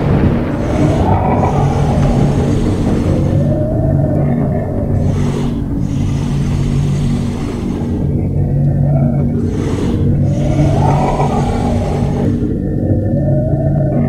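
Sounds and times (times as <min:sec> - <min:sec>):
low droning rumble: 0:00.0 - 0:14.0
slow rising and falling tones: 0:00.0 - 0:14.0.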